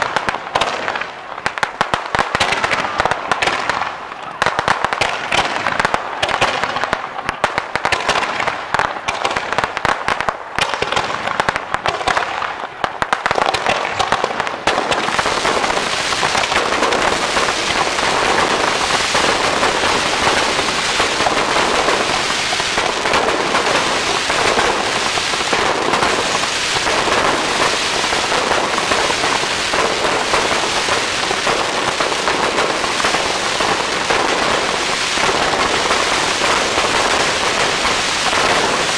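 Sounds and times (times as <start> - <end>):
fireworks bangs and crackle: 0.0 - 38.9.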